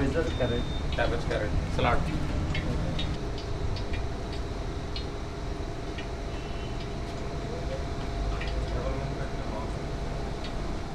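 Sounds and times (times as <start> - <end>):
faint even hum: 0.0 - 10.9.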